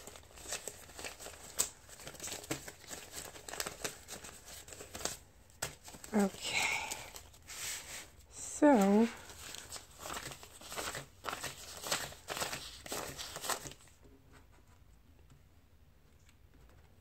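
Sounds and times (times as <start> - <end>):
paper bills rustling: 0.0 - 14.0.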